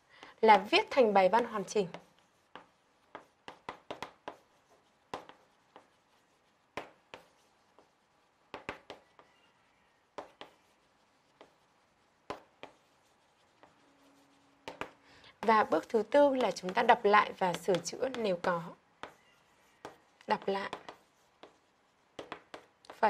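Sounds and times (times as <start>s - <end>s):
chalk tapping and scratching on blackboard: 0.0s - 23.0s.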